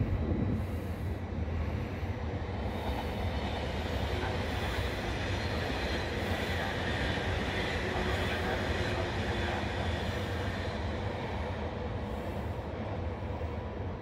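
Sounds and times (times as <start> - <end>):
train rail rumble: 0.0 - 14.0.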